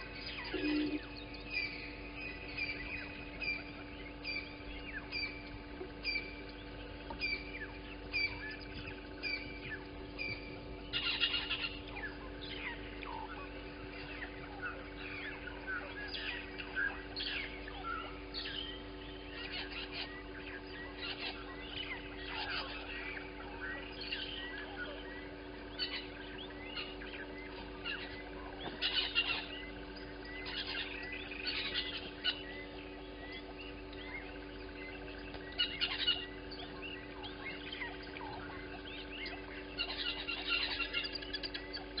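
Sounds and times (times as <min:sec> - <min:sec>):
birds chirping: 0:00.0 - 0:42.0
steady low hum: 0:00.0 - 0:42.0.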